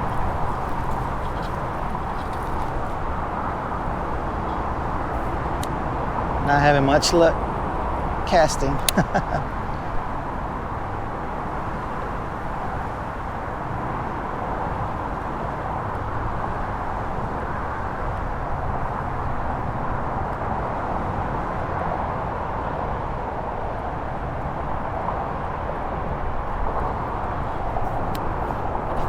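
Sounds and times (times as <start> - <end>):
highway traffic rushing: 0.0 - 29.0
wind rumbling on microphone: 0.0 - 29.0.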